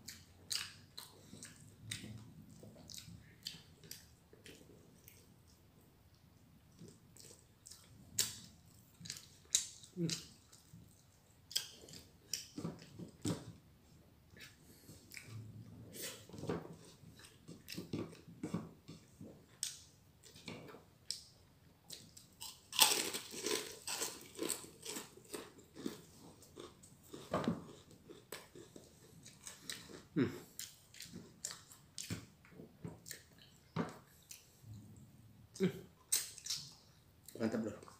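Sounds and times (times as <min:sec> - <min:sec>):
person chewing crunchy food: 0:00.0 - 0:05.6, 0:06.7 - 0:13.6, 0:14.3 - 0:21.3, 0:21.9 - 0:34.8, 0:35.6 - 0:37.9.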